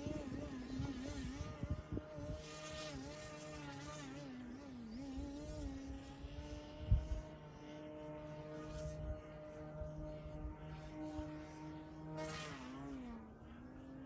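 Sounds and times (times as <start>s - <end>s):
wind rumbling on microphone: 0.0s - 12.1s
model plane motor buzzing: 0.0s - 14.0s.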